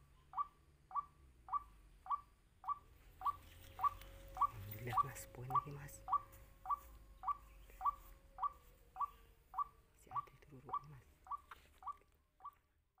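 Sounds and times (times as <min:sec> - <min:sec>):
waterhen calling: 0:00.0 - 0:12.6.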